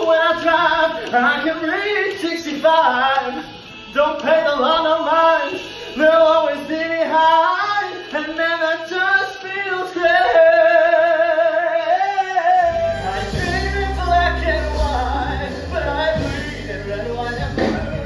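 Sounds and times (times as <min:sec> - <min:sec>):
man singing solo: 0:00.0 - 0:18.0.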